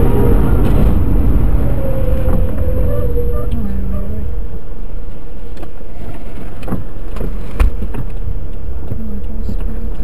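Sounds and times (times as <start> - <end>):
car driving on wet road: 0.0 - 10.0.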